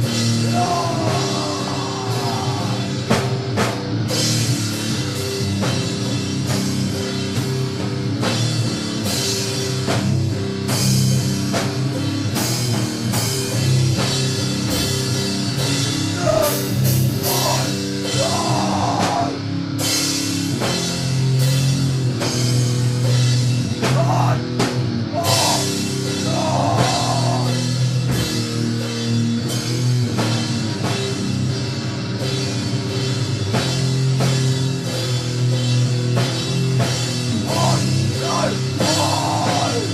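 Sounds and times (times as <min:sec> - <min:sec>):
long-held low guitar notes: 0:00.0 - 0:39.9.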